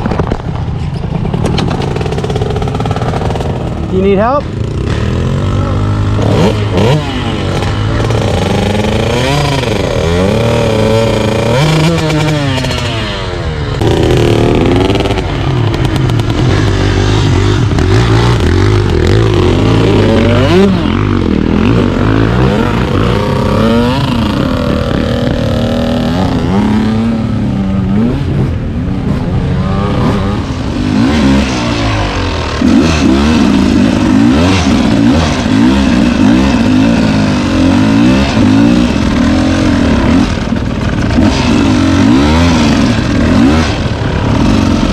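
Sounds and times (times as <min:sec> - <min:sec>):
dirt bike engine revving: 0:01.6 - 0:44.9.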